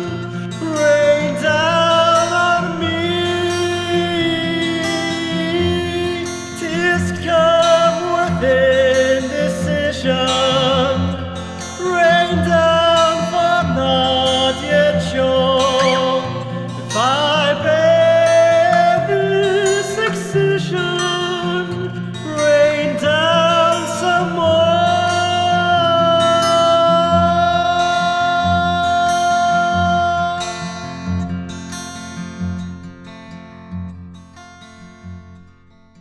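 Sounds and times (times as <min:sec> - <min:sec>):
acoustic guitar: 0:00.0 - 0:36.0.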